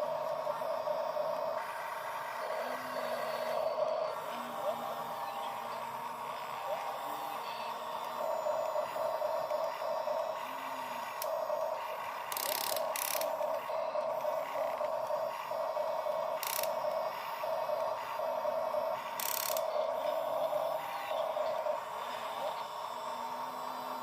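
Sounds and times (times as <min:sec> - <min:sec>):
noisy rasps: 0:00.0 - 0:23.7
small electric motors whining: 0:00.0 - 0:24.0.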